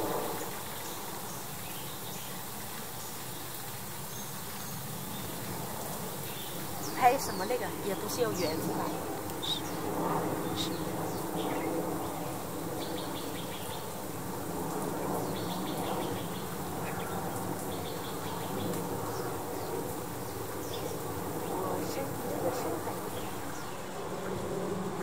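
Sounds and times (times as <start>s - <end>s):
birds chirping and twittering: 0.0s - 24.0s.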